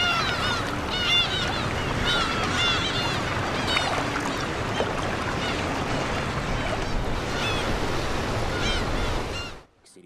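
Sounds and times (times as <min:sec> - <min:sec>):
bird calls: 0:00.0 - 0:05.7, 0:06.5 - 0:07.8, 0:08.4 - 0:09.6
sea water washing: 0:00.0 - 0:09.6.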